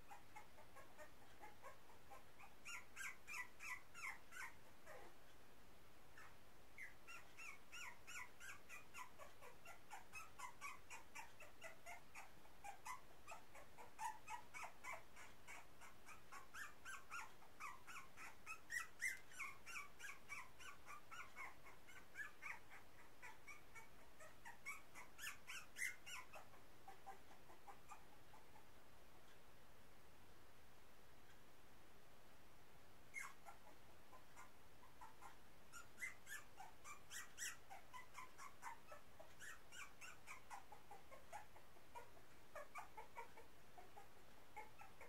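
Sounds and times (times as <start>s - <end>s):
puppy crying squeaks: 0.1s - 5.1s, 6.2s - 28.0s, 33.1s - 33.7s, 34.4s - 44.0s.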